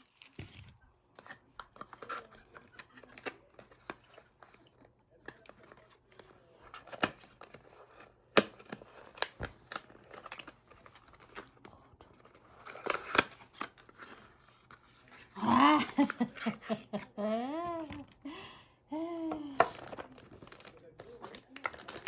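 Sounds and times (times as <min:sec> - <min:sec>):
packaging rustling and tearing: 0:00.0 - 0:15.4, 0:19.5 - 0:22.0.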